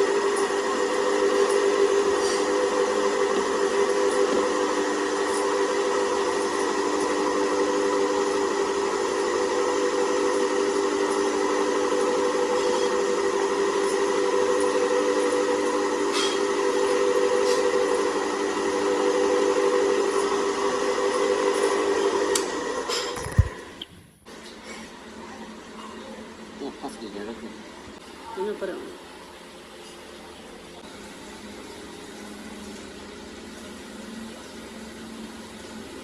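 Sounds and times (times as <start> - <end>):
workshop machine whining: 0.0 - 36.0.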